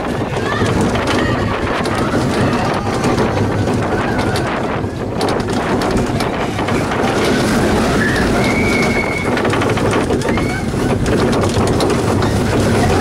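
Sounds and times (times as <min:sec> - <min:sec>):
roller coaster rumble: 0:00.0 - 0:13.0
wheels clattering: 0:00.0 - 0:13.0
wind on microphone: 0:00.0 - 0:13.0.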